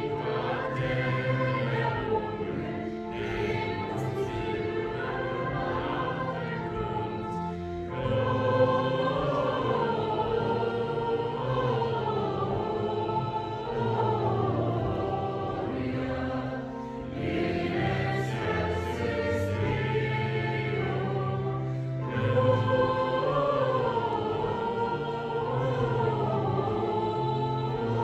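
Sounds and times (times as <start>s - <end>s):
church choir singing a carol: 0.0s - 28.0s
low organ tones: 0.0s - 28.0s.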